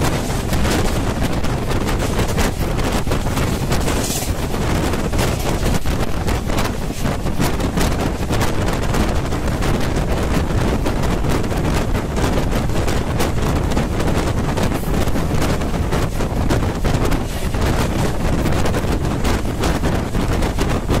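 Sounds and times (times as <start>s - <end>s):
train rumble: 0.0s - 21.0s
wheels clattering on rails: 0.0s - 21.0s
wind buffeting microphone: 0.0s - 21.0s.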